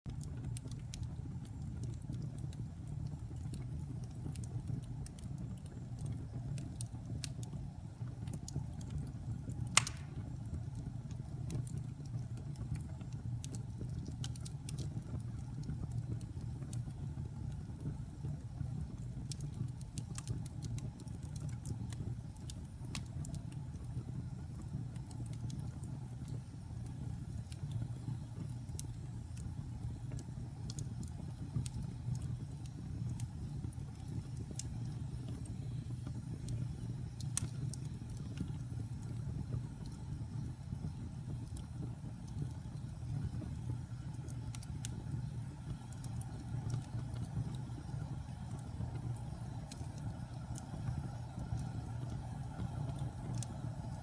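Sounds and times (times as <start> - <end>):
fire crackling and popping: 0.1 - 54.0
fire flames rumbling: 0.1 - 54.0.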